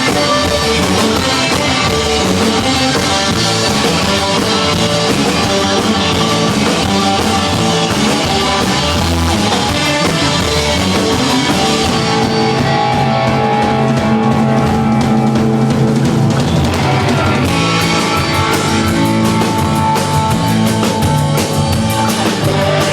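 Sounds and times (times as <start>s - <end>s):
drum kit pounding: 0.0s - 22.9s
rock band playing: 0.0s - 22.9s.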